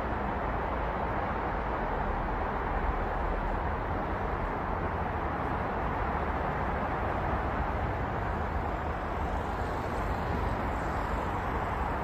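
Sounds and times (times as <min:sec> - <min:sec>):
city road traffic hum: 0:00.0 - 0:12.0.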